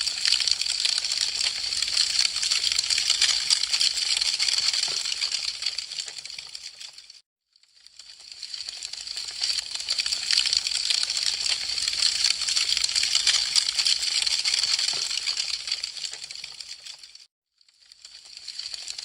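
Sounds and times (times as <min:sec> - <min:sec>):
wood fire crackling: 0:00.0 - 0:07.2, 0:07.9 - 0:17.2.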